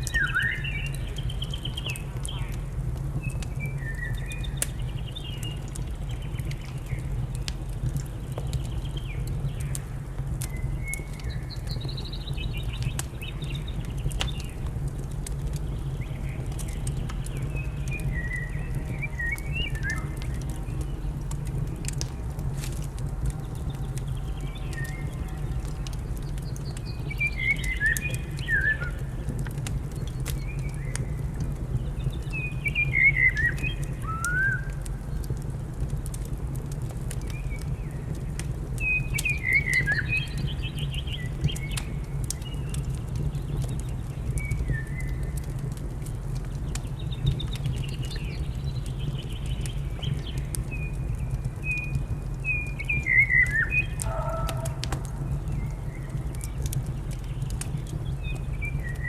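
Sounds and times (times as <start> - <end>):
songbirds singing: 0.0 - 59.0
wood fire crackling: 0.0 - 59.0.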